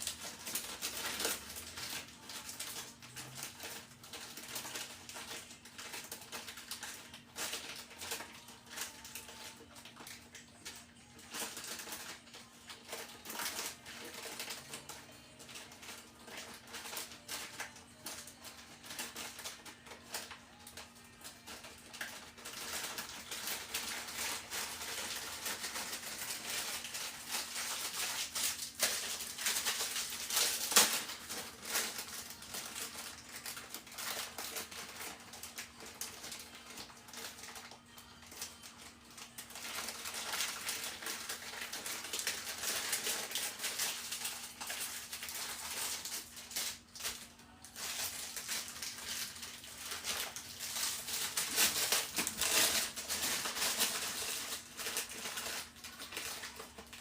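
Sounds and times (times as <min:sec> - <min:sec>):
cards and plastic wrappers rustling: 0:00.0 - 0:57.0.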